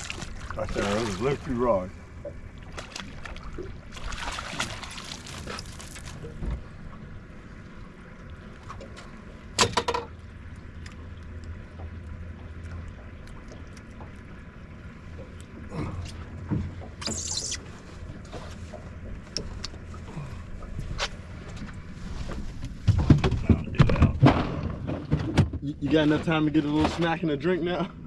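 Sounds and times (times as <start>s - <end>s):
steady low hum: 0.0s - 28.0s
water lapping around a boat: 0.0s - 28.0s.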